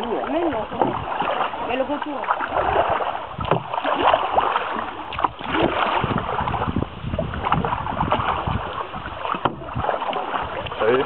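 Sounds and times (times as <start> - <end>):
paddle splashing water: 0.0 - 11.0
wind rumbling on microphone: 0.0 - 11.0.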